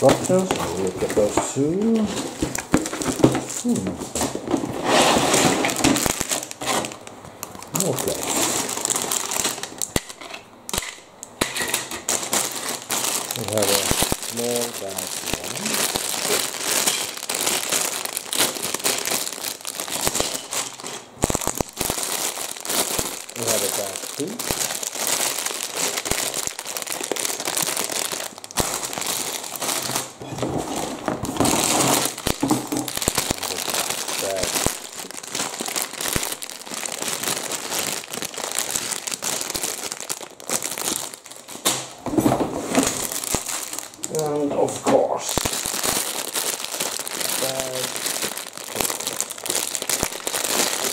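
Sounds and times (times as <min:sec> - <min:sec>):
plastic bags crinkling: 0:00.0 - 0:50.9.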